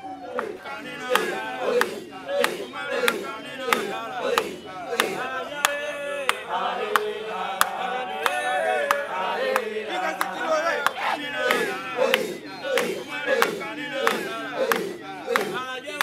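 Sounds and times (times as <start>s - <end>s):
crowd chanting in unison: 0.0s - 16.0s.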